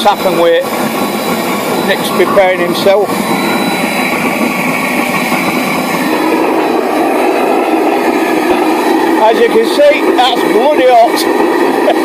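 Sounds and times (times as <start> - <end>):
oil burner rushing roar: 0.0 - 12.0.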